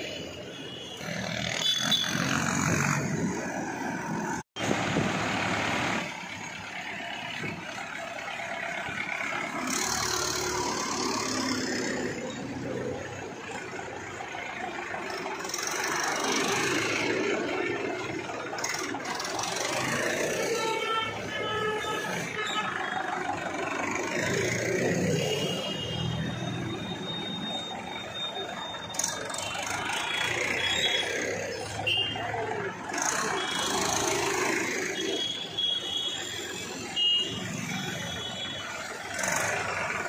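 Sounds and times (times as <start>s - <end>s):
street traffic noise: 0.0s - 40.0s
tractor engines running: 0.0s - 40.0s.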